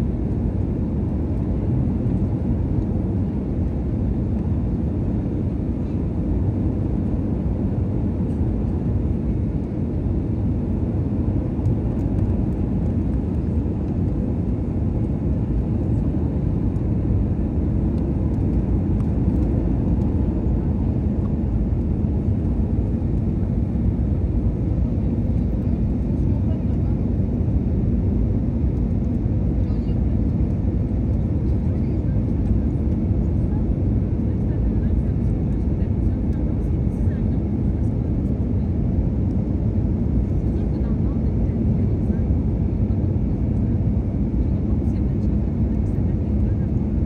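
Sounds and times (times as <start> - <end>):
airliner cabin jet engine rush: 0.0 - 47.0.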